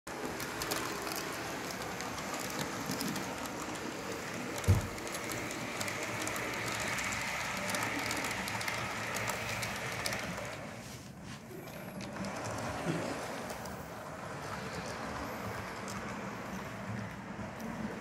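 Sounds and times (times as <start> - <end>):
model train running on track: 0.1 - 18.0.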